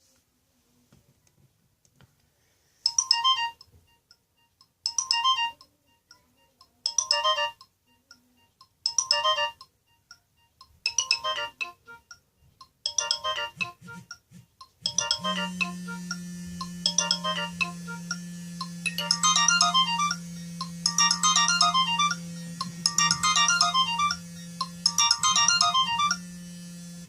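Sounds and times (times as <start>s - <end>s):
electronic ringtone melody: 2.9s - 12.2s, 12.8s - 27.0s.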